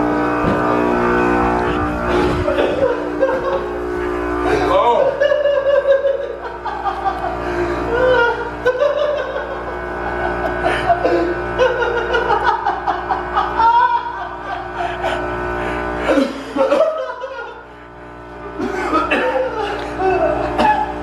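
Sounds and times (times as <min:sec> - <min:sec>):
people snickering and laughing: 0:01.6 - 0:21.0.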